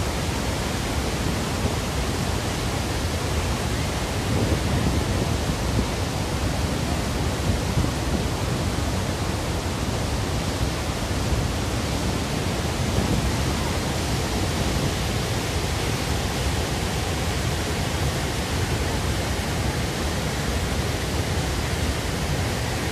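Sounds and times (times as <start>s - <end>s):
waterfall rushing over rock: 0.0s - 22.9s.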